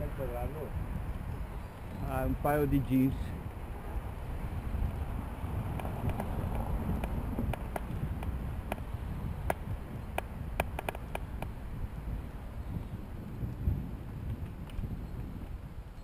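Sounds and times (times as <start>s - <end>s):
tyres and wind rumble: 0.0s - 16.0s.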